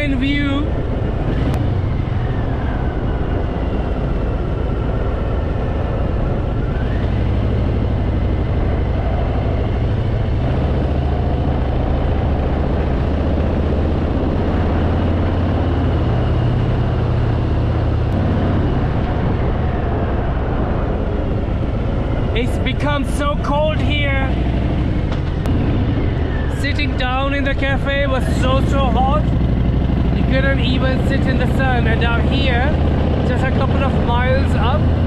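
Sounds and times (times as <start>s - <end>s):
riding wind rushing: 0.0s - 35.0s
motorcycle engine running: 0.7s - 35.0s.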